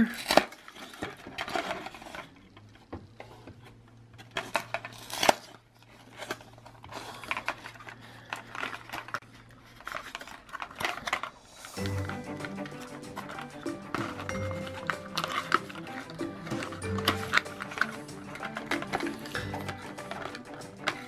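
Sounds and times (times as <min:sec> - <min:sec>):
packaging rustling and clattering: 0:00.0 - 0:21.0.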